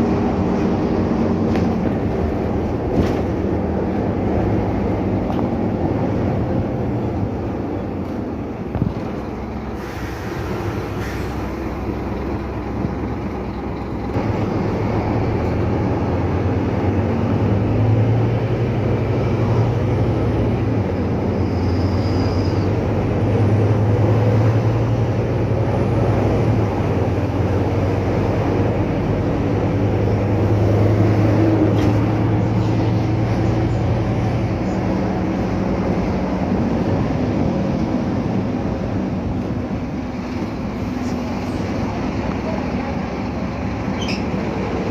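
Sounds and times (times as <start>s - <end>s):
bus diesel engine droning: 0.0s - 44.9s
road noise: 0.0s - 44.9s.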